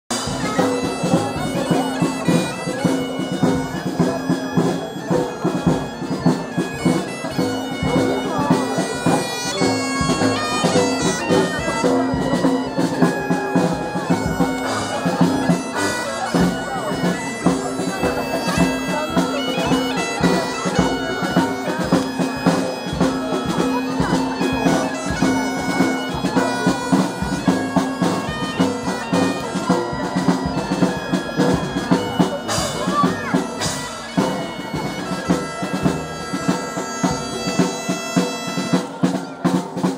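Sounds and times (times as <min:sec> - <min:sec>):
drumbeats: 0:00.1 - 0:39.9
wind instruments playing a tune: 0:00.1 - 0:39.9.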